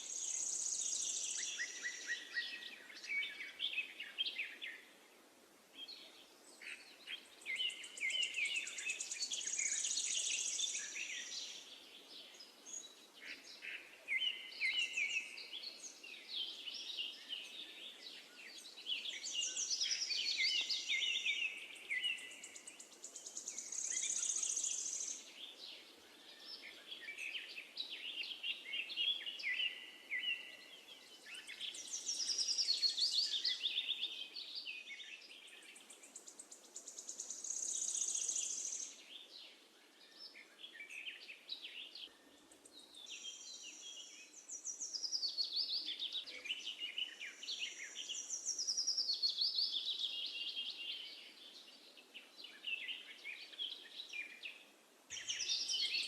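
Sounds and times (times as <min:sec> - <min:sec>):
faint outdoor background: 0:00.0 - 0:56.0
songbirds singing and chirping: 0:00.0 - 0:56.0.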